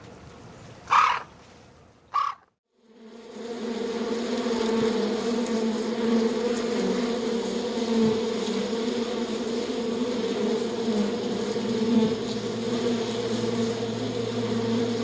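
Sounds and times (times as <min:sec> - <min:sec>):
insects buzzing: 0:02.2 - 0:15.0.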